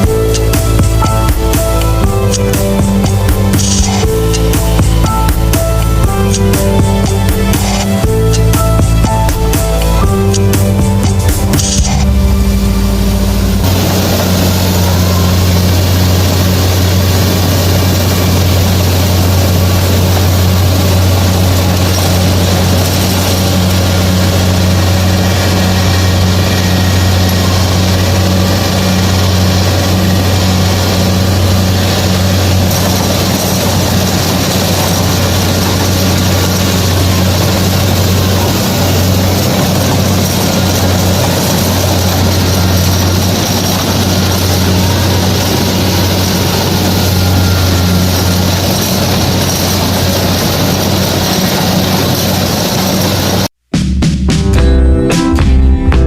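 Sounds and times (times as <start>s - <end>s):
clatter of threshing machinery: 0.0s - 53.5s
combine harvester engine drone: 0.0s - 53.7s.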